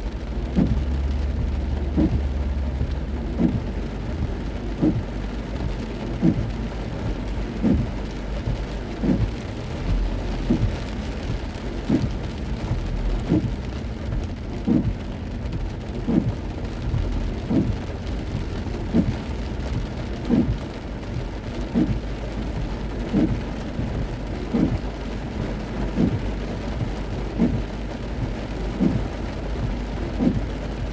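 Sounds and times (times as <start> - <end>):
heavy rain on car: 0.0 - 30.9
windshield wipers swishing: 0.0 - 30.9.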